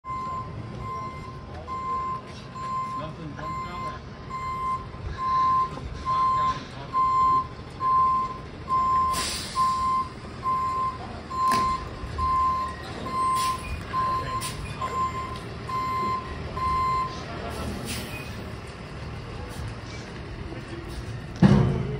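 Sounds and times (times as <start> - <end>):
truck backup alarm beeping: 0.0 - 18.6
diesel engine running: 0.1 - 21.9.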